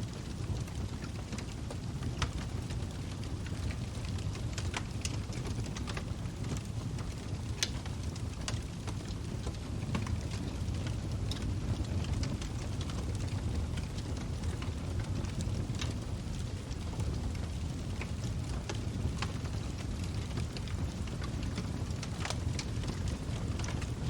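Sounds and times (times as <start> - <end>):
log fire crackling and popping: 0.0 - 24.0.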